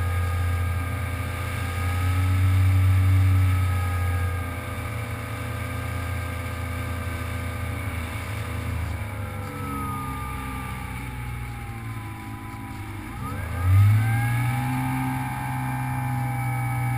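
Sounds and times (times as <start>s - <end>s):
electric motor and propeller whining: 0.0s - 16.9s.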